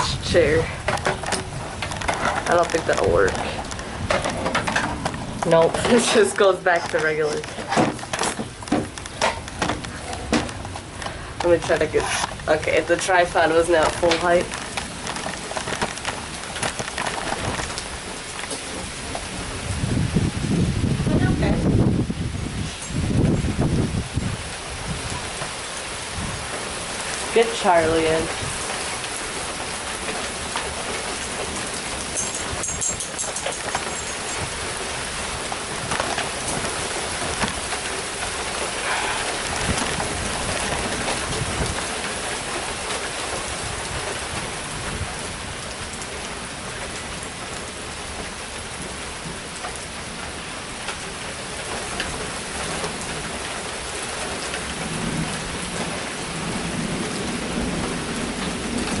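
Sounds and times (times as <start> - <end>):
low rumble of thunder: 0.0 - 49.4, 54.3 - 59.0
rain pattering: 0.0 - 59.0.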